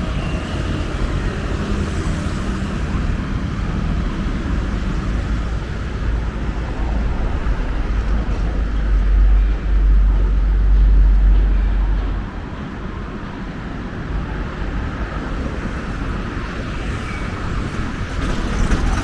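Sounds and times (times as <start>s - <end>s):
road traffic rumbling: 0.0s - 19.0s.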